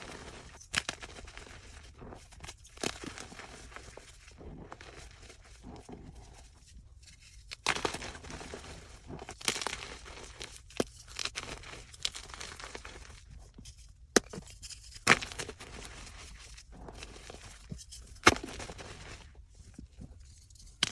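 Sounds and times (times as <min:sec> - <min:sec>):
chalk crunching and crumbling: 0:00.0 - 0:20.9.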